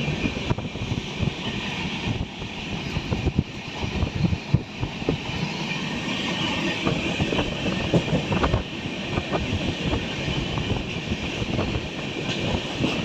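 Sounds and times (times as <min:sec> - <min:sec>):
train wheels rumbling: 0:00.0 - 0:13.0
wind on microphone: 0:00.0 - 0:13.0.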